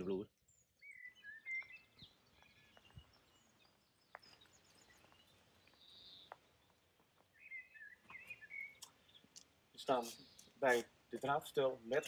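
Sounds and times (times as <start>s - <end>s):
soft bird chirps: 0.0s - 10.9s.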